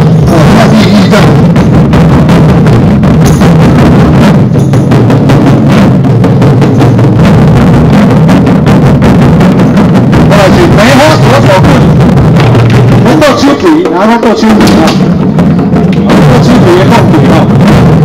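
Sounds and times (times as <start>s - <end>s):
taiko drums beating: 0.0s - 18.0s.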